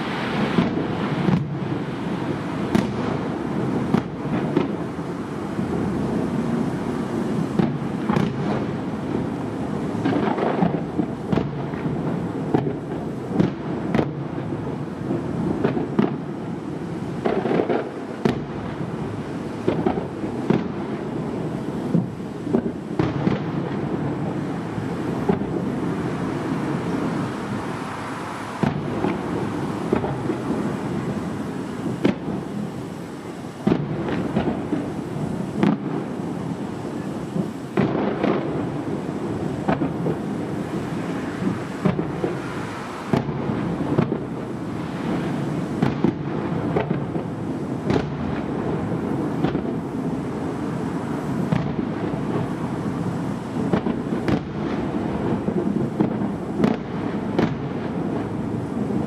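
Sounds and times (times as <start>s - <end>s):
continuous rumble: 0.0s - 59.0s
firework booms and crackles: 0.0s - 59.0s.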